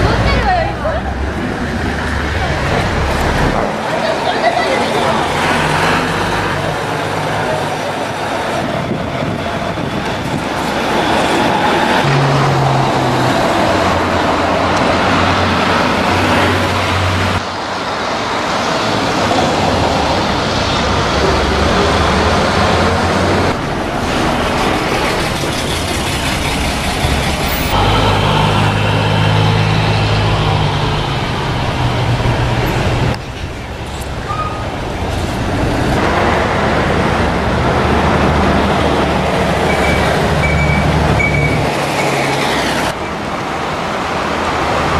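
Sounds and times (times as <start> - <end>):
diesel buses pulling away: 0.0 - 44.9
traffic noise: 0.0 - 44.9.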